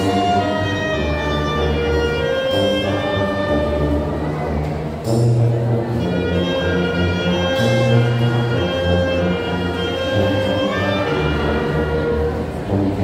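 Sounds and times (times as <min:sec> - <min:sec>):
brass band playing held chords: 0:00.0 - 0:13.0.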